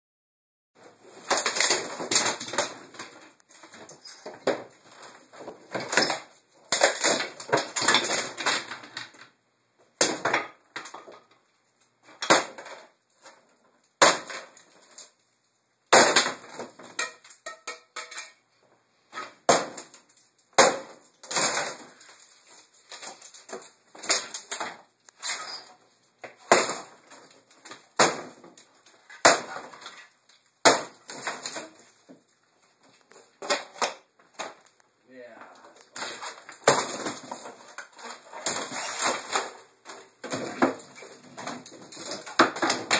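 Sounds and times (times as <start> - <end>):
wooden cabinets crashing: 0.9 - 9.3, 10.0 - 11.3, 12.0 - 13.0, 14.0 - 14.6, 15.9 - 18.3, 19.1 - 20.0, 20.6 - 32.2, 32.9 - 34.7, 35.7 - 42.9
boards cracking and splintering: 1.1 - 9.3, 10.0 - 11.4, 12.1 - 15.2, 15.9 - 18.3, 19.2 - 34.8, 35.6 - 42.9.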